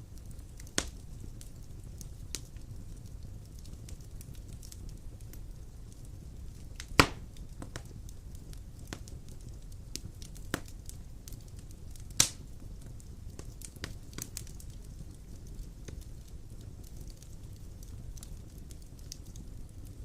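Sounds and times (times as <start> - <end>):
fire rumbling: 0.0 - 20.0
wood crackling and popping: 0.0 - 20.0.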